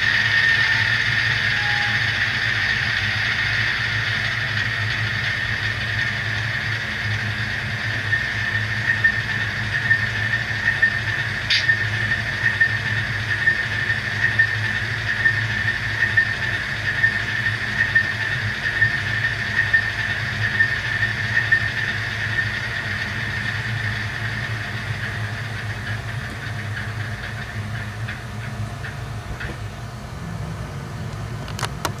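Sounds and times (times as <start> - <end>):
high whine: 0.0 - 32.0
model locomotive engine sound: 0.0 - 32.0.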